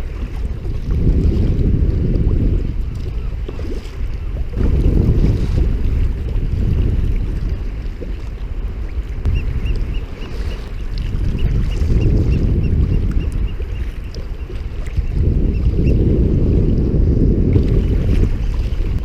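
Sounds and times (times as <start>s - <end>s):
water washing around kayak: 0.0s - 19.0s
wind rumbling on microphone: 0.0s - 19.0s.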